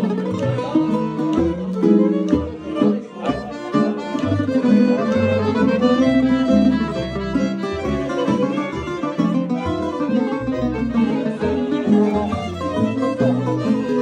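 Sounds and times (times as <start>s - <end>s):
plucked string band music: 0.0s - 14.0s.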